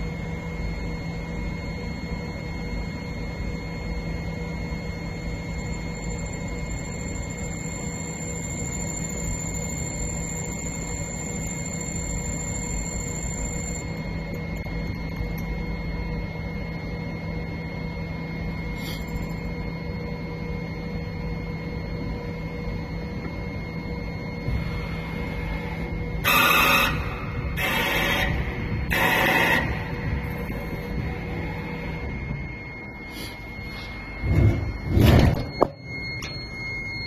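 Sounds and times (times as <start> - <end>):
high whine of drilling: 0.0 - 37.0.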